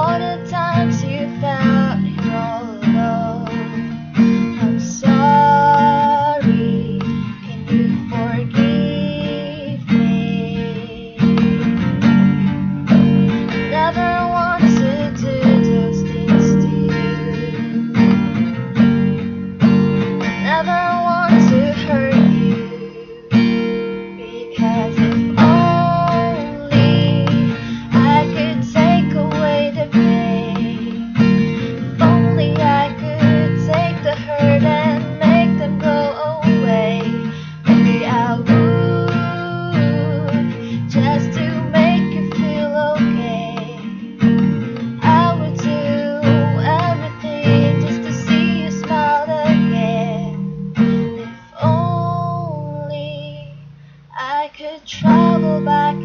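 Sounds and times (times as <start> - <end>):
strummed ukulele: 0.0 - 53.4
woman singing: 0.0 - 56.0.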